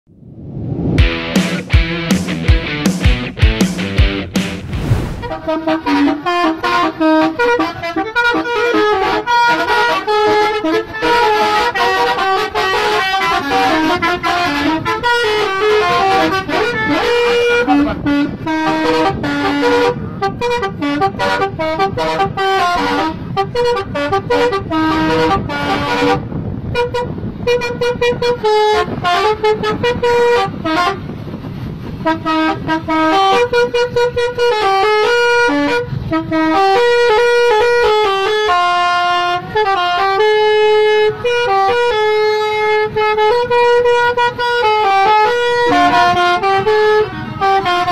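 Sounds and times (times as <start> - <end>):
multi-tone horn tunes: 4.9 - 47.9.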